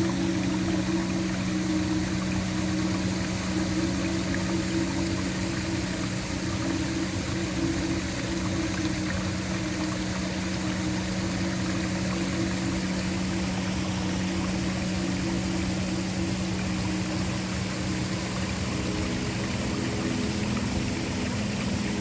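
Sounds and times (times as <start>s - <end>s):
low ambient drone: 0.0s - 22.0s.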